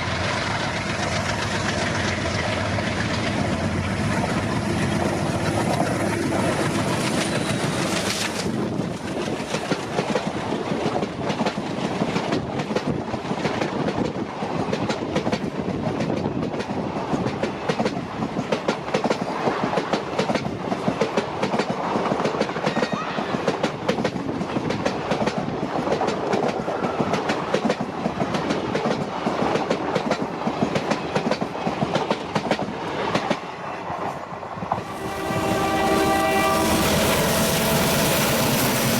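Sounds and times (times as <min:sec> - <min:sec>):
train rumble: 0:00.0 - 0:38.9
train wheels clattering on rails: 0:00.0 - 0:38.9.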